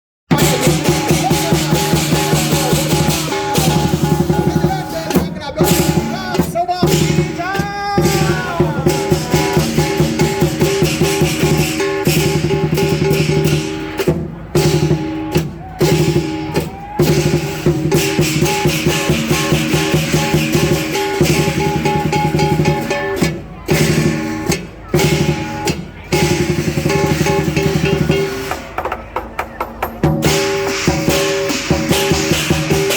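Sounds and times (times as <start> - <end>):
lion dance drum and percussion: 0.3 - 32.9.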